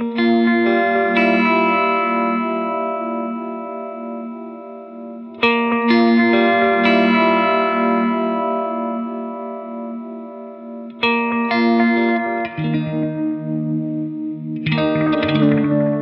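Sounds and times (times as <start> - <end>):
electric guitar chords ringing: 0.0 - 16.0
picked guitar notes: 0.0 - 16.0.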